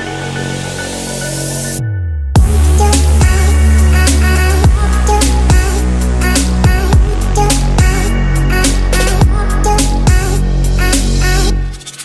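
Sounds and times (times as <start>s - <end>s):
electronic dance music: 0.0s - 12.0s
sliding bass note: 1.6s - 11.8s.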